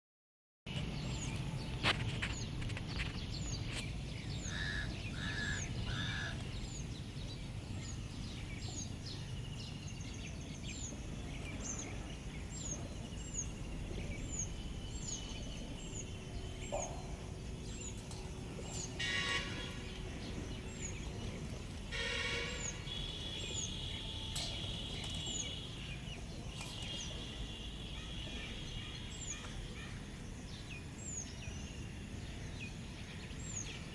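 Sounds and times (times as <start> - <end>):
wild birds calling: 1.0 - 31.2.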